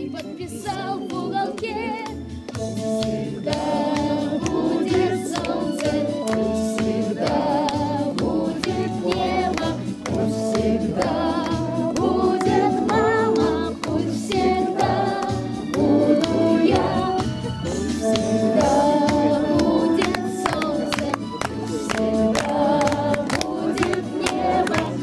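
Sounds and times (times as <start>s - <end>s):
backing track with bass beat: 1.4s - 25.0s
saxophone melody: 2.5s - 25.0s.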